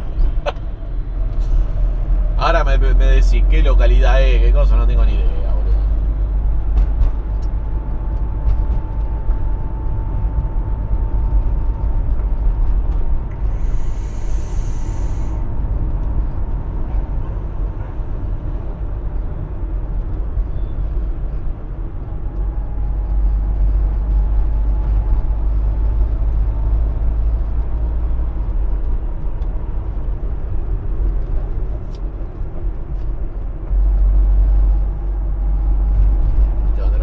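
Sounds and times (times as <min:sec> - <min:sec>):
van engine and road rumble: 0:00.0 - 0:37.0.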